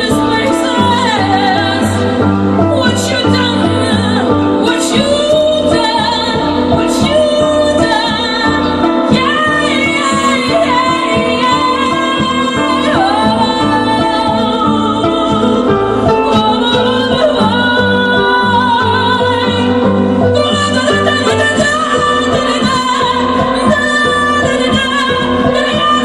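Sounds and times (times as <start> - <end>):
woman singing: 0.0 - 26.0.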